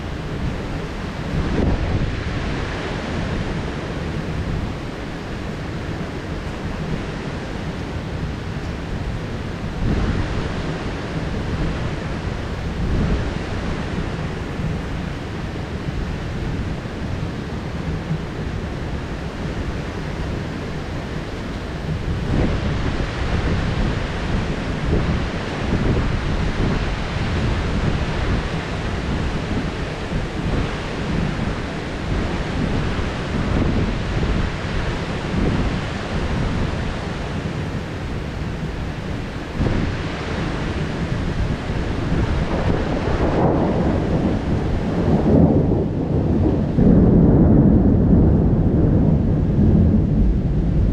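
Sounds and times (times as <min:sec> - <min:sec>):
heavy rain downpour: 0:00.0 - 0:50.9
thunder rumbling: 0:00.0 - 0:50.9.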